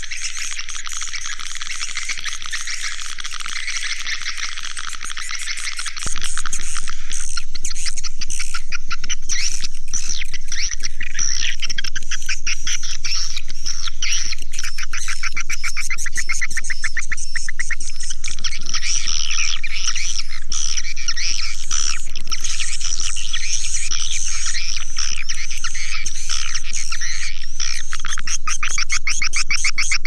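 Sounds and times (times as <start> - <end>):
swiftlets chirping and twittering: 0.0 - 11.7, 12.3 - 30.0.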